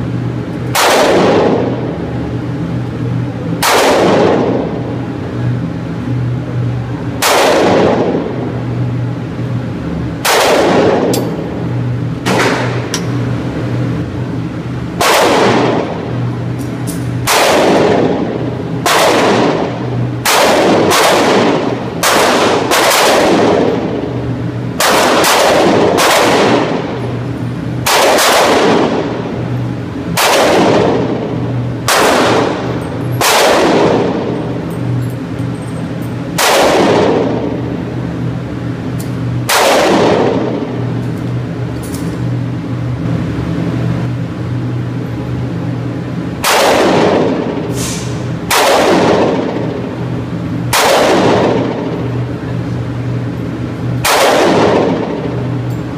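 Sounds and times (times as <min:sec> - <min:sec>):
pistol shots echoing indoors: 0:00.0 - 0:05.6, 0:07.0 - 0:13.4, 0:14.9 - 0:42.5, 0:45.2 - 0:53.2, 0:53.8 - 0:55.9
steady low hum: 0:00.0 - 0:55.9.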